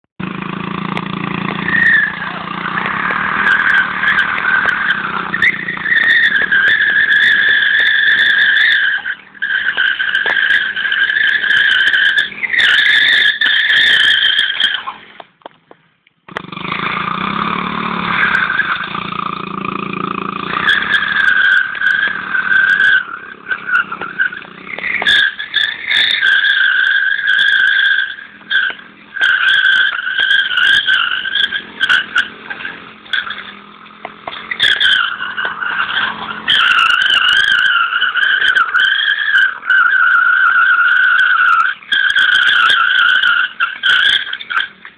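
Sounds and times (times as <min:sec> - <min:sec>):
motorcycle engine revving: 0:00.2 - 0:15.2, 0:16.2 - 0:44.9
tyre squealing on concrete: 0:00.7 - 0:44.9.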